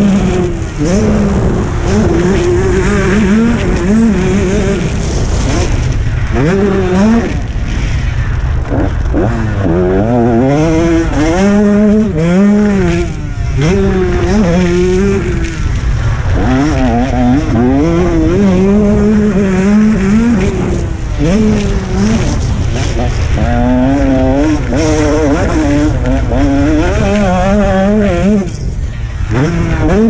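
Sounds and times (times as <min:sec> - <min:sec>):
motocross bike engine revving: 0:00.0 - 0:30.0.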